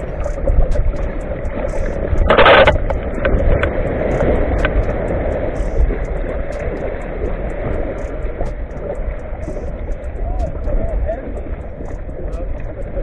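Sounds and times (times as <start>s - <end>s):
small waves washing around kayak: 0.0s - 13.0s
wind rumbling on microphone: 0.0s - 13.0s.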